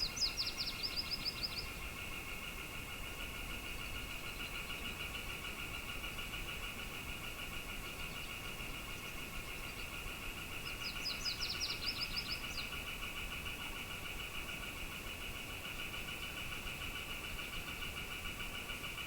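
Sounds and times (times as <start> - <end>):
pulsing insect chorus: 0.0 - 19.0.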